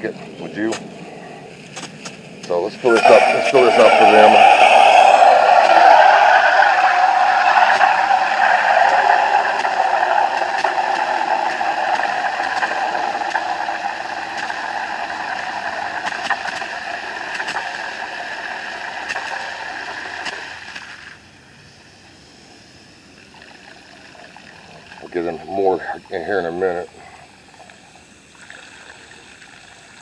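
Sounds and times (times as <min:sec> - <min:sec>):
hose water running into container: 0:02.5 - 0:21.2, 0:23.2 - 0:30.0.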